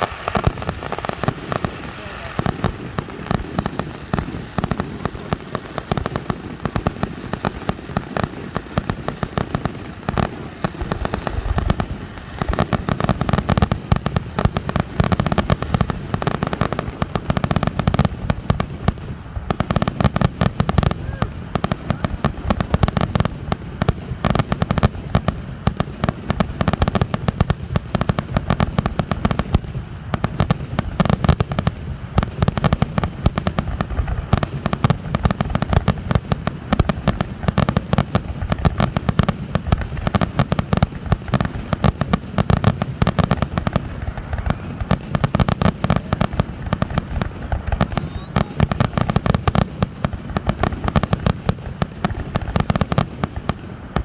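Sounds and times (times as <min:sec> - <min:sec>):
fireworks barrage of rapid bangs: 0:00.0 - 0:54.0.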